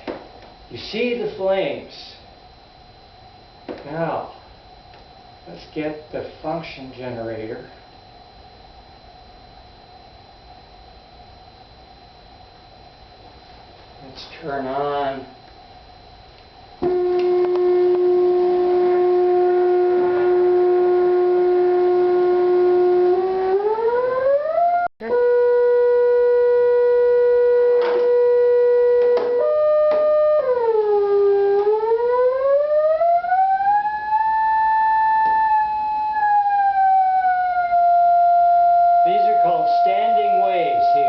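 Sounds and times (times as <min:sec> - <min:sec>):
electronic test tone: 0:00.0 - 0:41.0.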